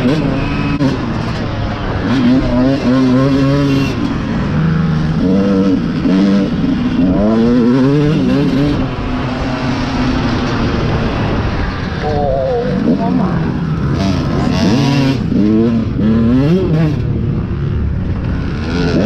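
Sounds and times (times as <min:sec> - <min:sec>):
dirt bike engine revving: 0:00.0 - 0:11.4, 0:12.6 - 0:19.0.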